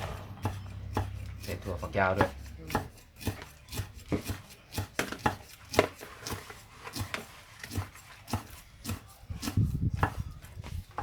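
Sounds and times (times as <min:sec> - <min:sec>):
knife chopping on cutting board: 0:00.0 - 0:10.2.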